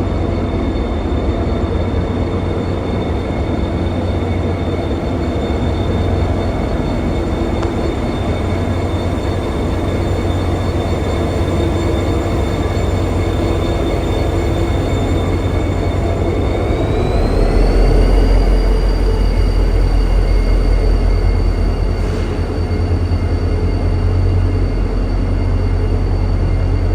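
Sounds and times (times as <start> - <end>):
electric train rumble and motor whine: 0.0 - 26.9.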